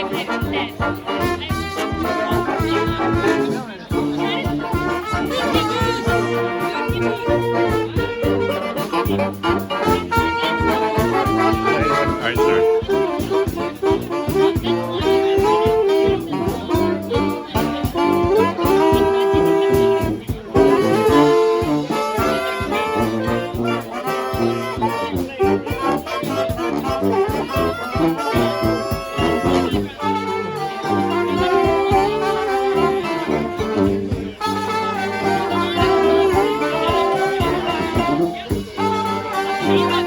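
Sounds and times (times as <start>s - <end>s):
brass band playing: 0.0s - 40.0s
steady drum beat: 0.0s - 40.0s.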